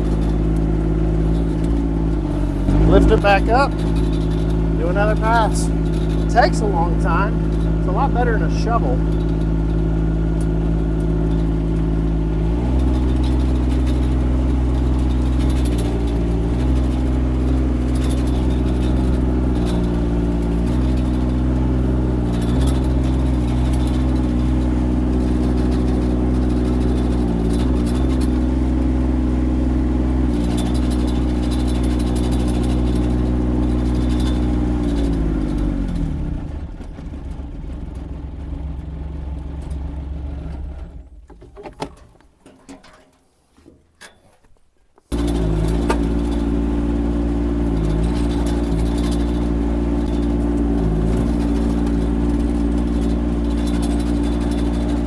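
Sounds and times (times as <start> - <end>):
diesel engine running: 0.0 - 41.4, 45.1 - 55.0.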